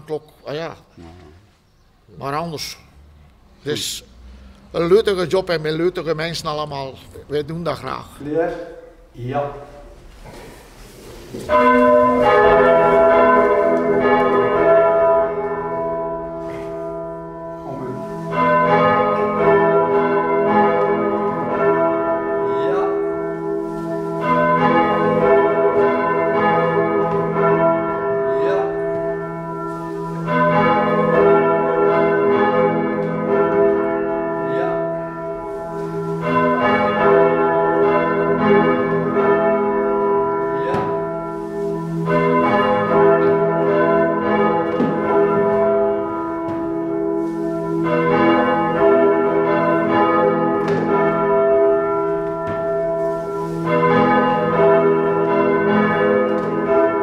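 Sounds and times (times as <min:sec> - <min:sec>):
church bells ringing: 0:00.0 - 0:00.9, 0:02.1 - 0:10.0, 0:11.0 - 0:57.0.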